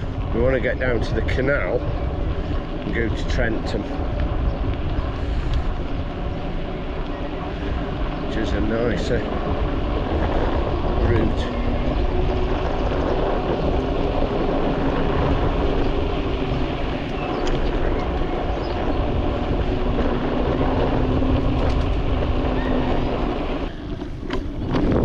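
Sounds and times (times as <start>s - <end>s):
tyre and road noise: 0.0s - 25.0s
wind rumbling on microphone: 0.0s - 25.0s.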